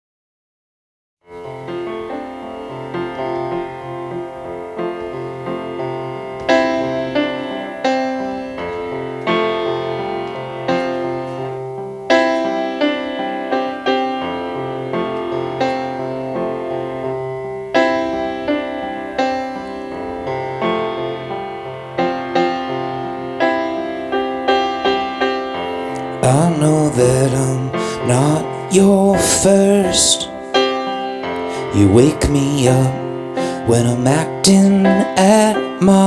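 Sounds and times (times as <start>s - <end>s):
piano repeated chords: 1.2s - 36.0s.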